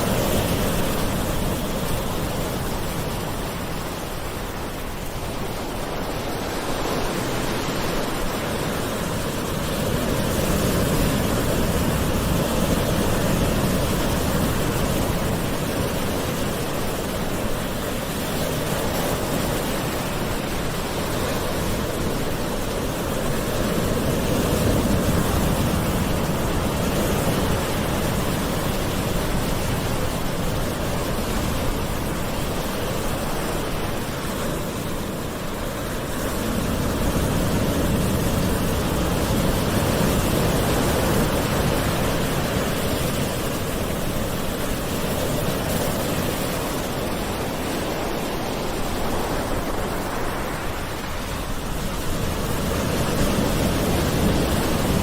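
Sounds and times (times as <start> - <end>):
ocean waves washing: 0.0 - 55.0.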